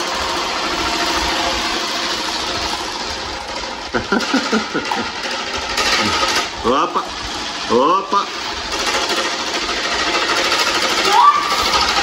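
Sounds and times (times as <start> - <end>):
electric fans blowing air: 0.0 - 12.0
fan motor hum: 0.0 - 12.0.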